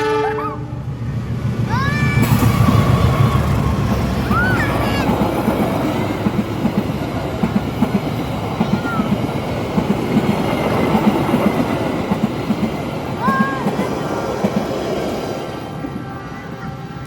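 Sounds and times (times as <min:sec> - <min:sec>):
train rumble: 0:00.0 - 0:17.0
train wheels clacking on rails: 0:01.7 - 0:16.1.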